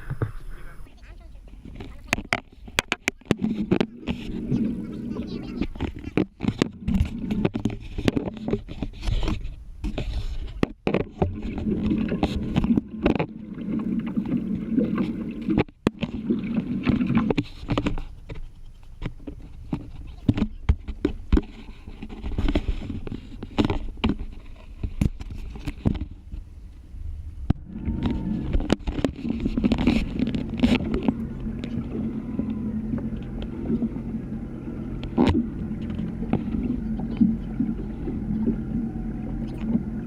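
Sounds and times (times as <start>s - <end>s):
boat engine low rumble: 0.0s - 40.0s.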